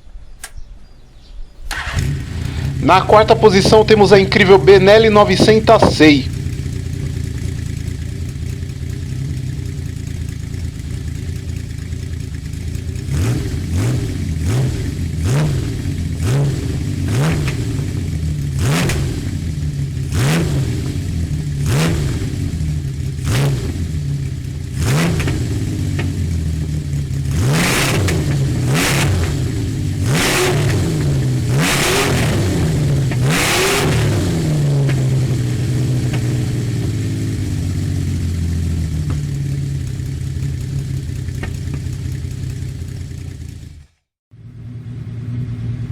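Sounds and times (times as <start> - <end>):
motorcycle engine idling and revving: 0.4 - 45.9.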